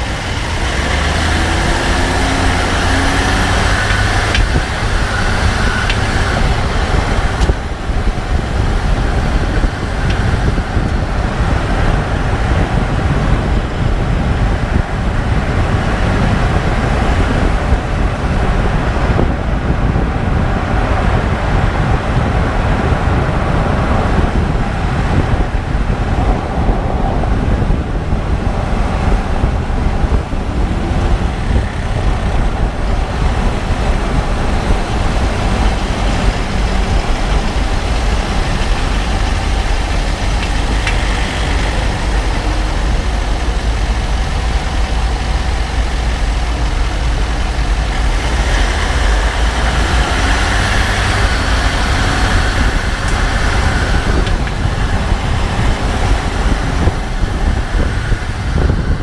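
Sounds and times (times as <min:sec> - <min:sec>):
diesel engine low rumble: 0:00.0 - 0:59.0.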